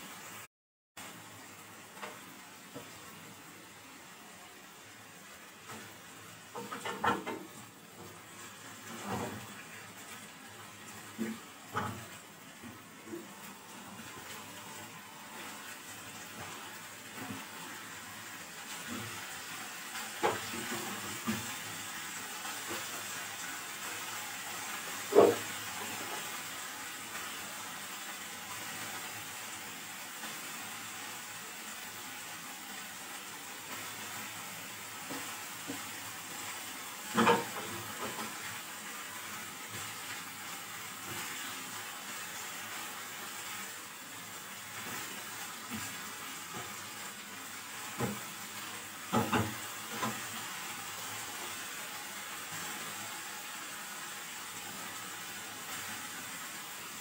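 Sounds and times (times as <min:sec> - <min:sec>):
food sizzling in a frying pan: 0:00.0 - 0:57.0.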